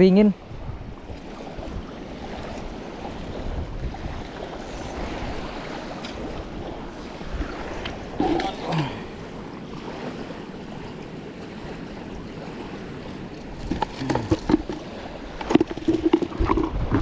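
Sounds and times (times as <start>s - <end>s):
water washing at shoreline: 0.0s - 17.0s
wind: 0.0s - 17.0s.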